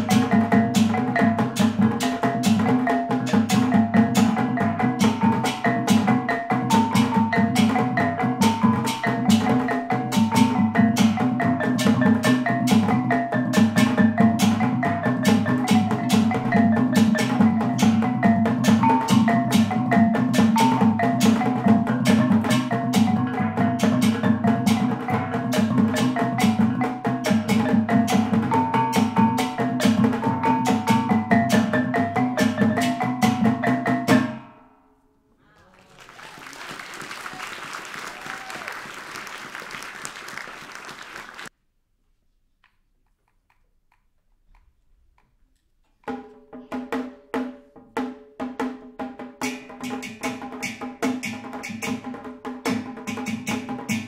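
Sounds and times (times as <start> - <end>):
goblet drum beat: 0.0 - 34.5, 37.2 - 38.7, 46.0 - 54.0.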